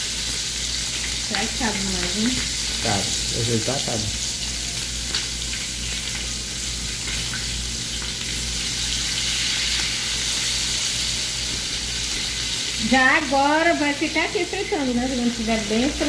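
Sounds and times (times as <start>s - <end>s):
chicken deep-frying in oil: 0.0s - 16.0s.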